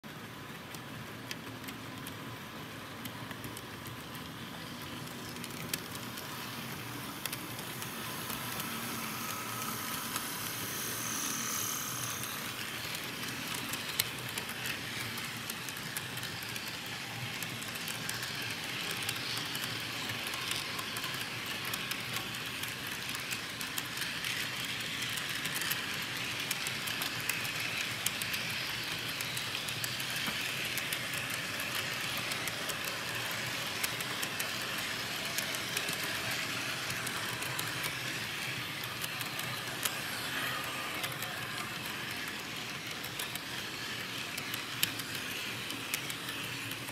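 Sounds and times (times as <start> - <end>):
model train wheels rolling: 0.1 - 46.9
wheels clicking on track joints: 0.4 - 46.9.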